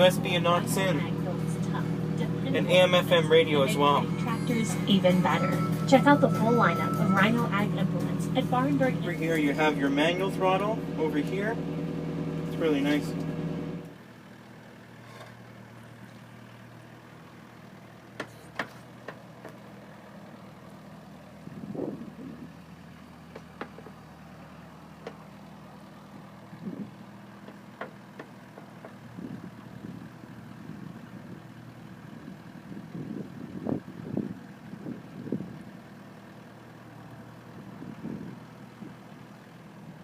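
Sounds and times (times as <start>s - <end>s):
excavator diesel engine idling: 0.0s - 40.0s.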